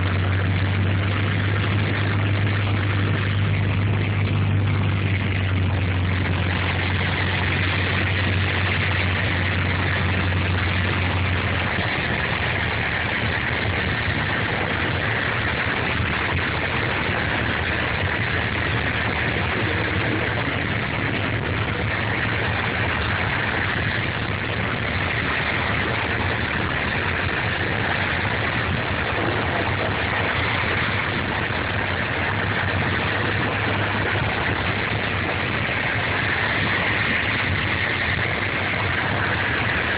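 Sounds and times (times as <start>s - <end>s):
aircraft piston engine drone: 0.0s - 39.9s
deep hum: 0.0s - 39.9s.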